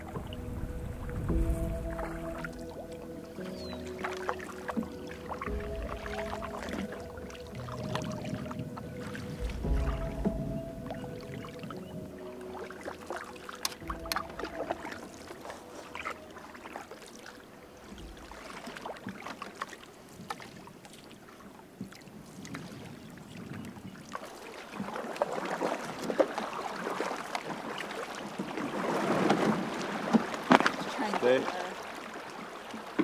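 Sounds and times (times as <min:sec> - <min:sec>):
water dripping: 0:00.0 - 0:28.5
paddle strokes in water: 0:00.0 - 0:33.0.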